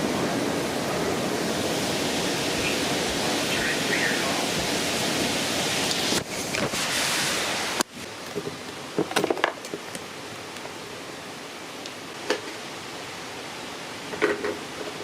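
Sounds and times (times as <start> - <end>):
heavy rain pouring: 0.0 - 15.0
wind: 0.0 - 15.0.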